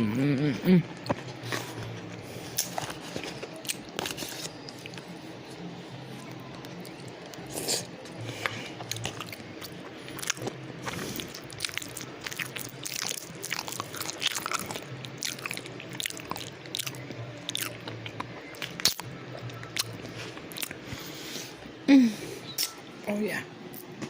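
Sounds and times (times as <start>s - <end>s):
person chewing food: 0.0s - 21.6s
faint steady hum: 0.0s - 24.0s.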